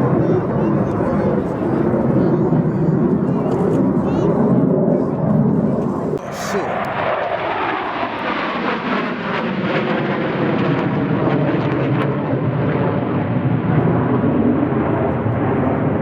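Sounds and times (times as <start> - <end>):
plane flying past: 0.0 - 16.0.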